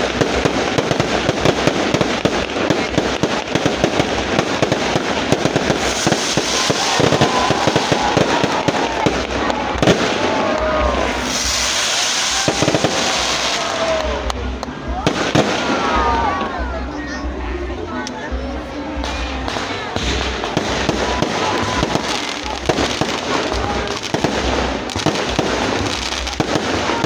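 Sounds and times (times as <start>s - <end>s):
whistling fireworks: 0.0s - 16.9s, 19.0s - 27.0s
fireworks crackling: 0.0s - 27.0s.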